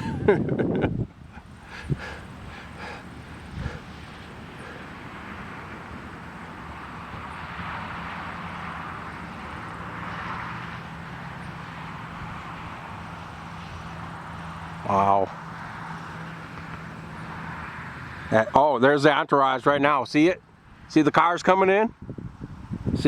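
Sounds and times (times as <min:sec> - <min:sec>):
distant jet aircraft running: 0:00.0 - 0:23.0.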